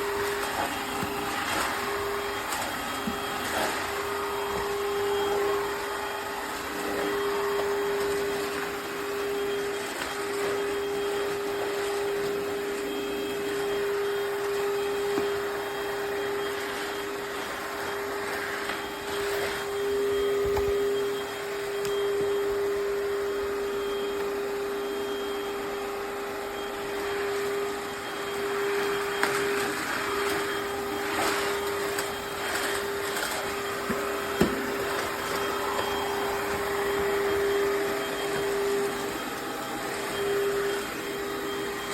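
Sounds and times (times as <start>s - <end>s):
floor vacuum running: 0.0s - 41.9s.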